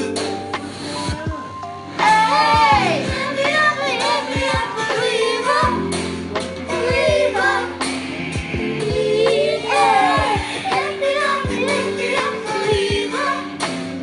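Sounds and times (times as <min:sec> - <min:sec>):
steady beat: 0:00.0 - 0:01.4, 0:02.0 - 0:14.0
woman singing pop song: 0:00.8 - 0:08.0, 0:08.8 - 0:14.0.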